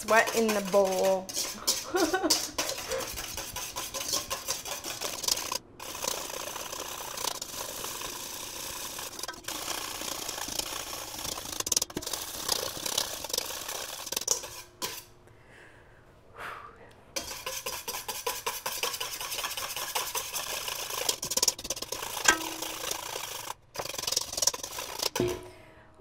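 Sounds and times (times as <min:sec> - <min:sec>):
whisk rattling in metal bowl: 0:00.0 - 0:15.1, 0:17.2 - 0:25.5.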